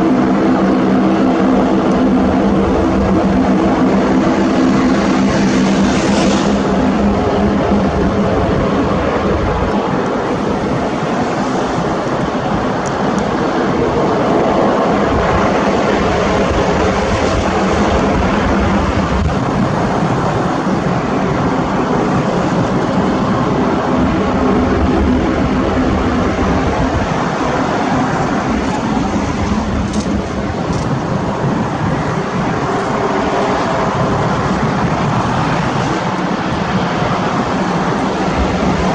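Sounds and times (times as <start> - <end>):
aircraft engines droning: 0.0 - 38.9.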